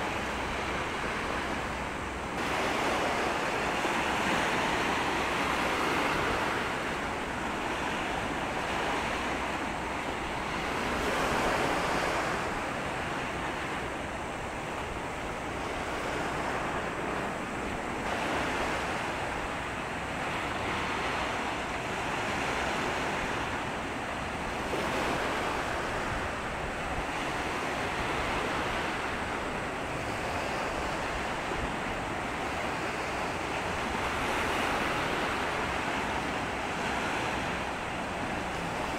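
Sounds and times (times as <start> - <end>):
sea water washing at shore: 0.0 - 38.9.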